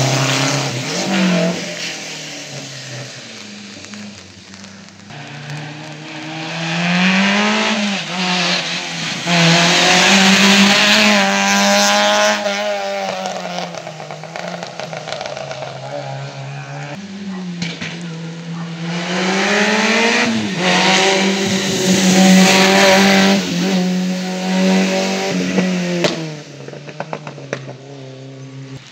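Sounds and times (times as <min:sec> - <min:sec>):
car engine revving past: 0:00.0 - 0:28.8
tyre hiss on wet road: 0:00.0 - 0:28.9.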